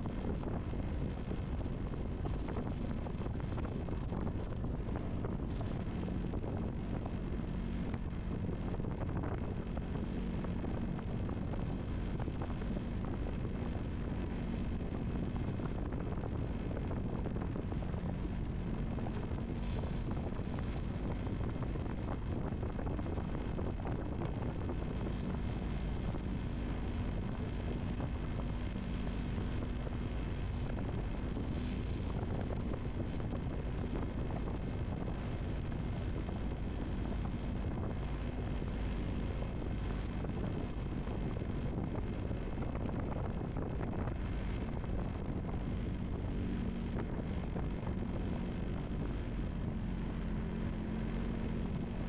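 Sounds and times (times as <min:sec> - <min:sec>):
boat motor running: 0:00.0 - 0:52.0
wind rushing over microphone: 0:00.0 - 0:52.0.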